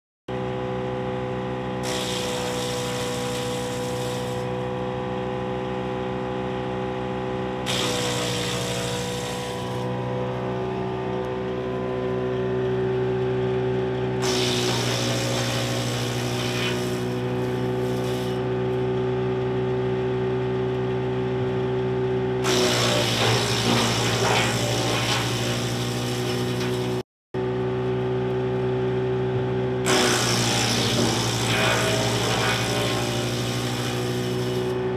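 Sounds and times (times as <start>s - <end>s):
wood chipper whining: 0.3s - 34.9s.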